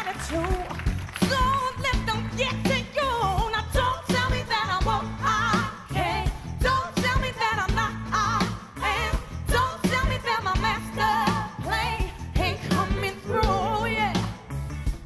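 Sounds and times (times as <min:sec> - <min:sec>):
band with drums and bass: 0:00.0 - 0:15.0
woman singing with vibrato: 0:00.2 - 0:14.4
backing singers: 0:00.2 - 0:14.5.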